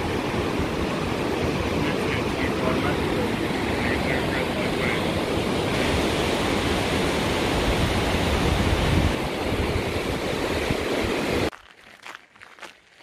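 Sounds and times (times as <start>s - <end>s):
water rushing over boulders: 0.0s - 11.5s.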